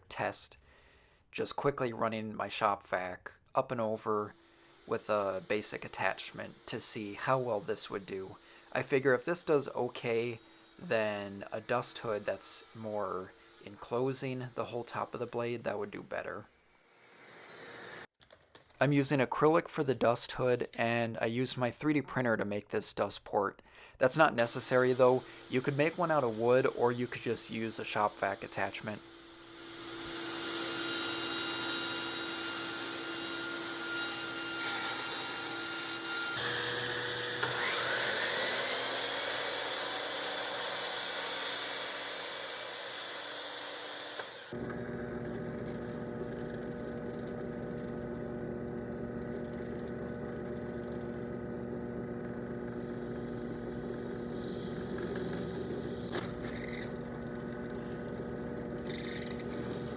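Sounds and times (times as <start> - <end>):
power saw cutting acrylic: 4.1 - 18.1, 24.4 - 51.6, 52.6 - 59.9.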